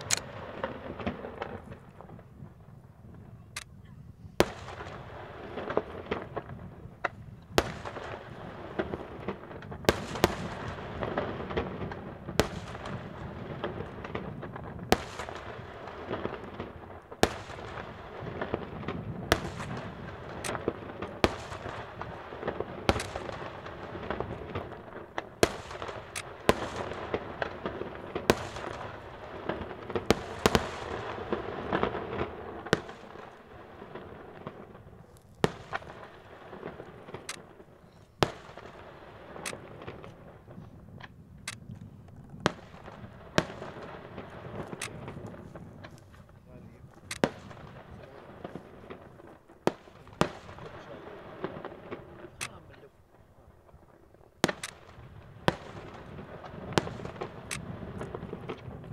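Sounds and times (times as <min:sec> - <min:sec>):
fireworks bursting: 0:00.0 - 0:03.5, 0:04.1 - 0:58.9.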